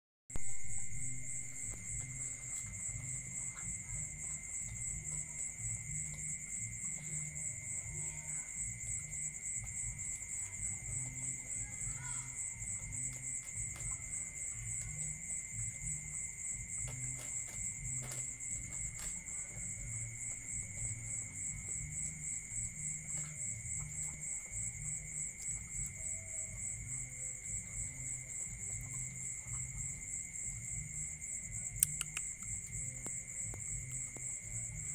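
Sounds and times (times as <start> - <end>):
crickets chirring: 0.3 - 34.9.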